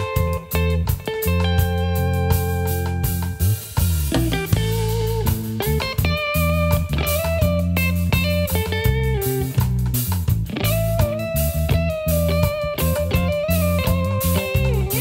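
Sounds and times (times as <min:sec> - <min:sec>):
bass guitar line: 0:00.0 - 0:15.0
drum kit beat: 0:00.0 - 0:15.0
electric guitar lead notes: 0:00.0 - 0:15.0.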